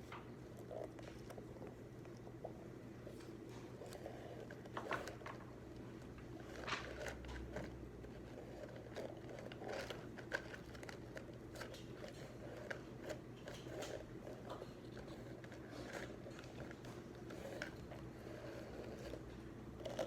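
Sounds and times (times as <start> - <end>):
low room hum: 0.0 - 20.0
pens and paper tapping and scratching: 3.0 - 20.0.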